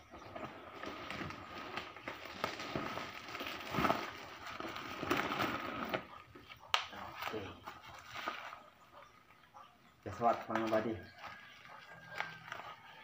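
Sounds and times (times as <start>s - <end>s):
bubble wrap crinkling and crackling: 0.3s - 8.8s, 10.1s - 13.0s.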